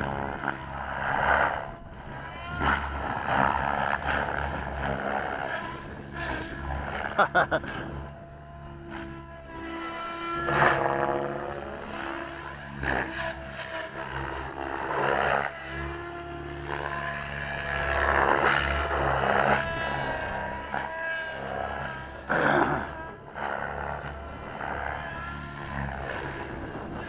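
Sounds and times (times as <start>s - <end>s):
model helicopter rotor whine: 0.0s - 27.0s.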